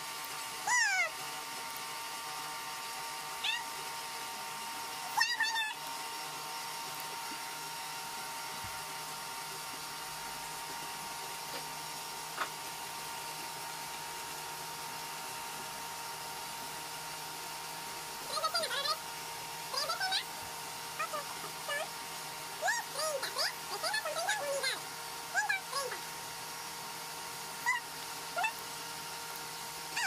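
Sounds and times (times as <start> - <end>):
faint hum and hiss: 0.0 - 30.0.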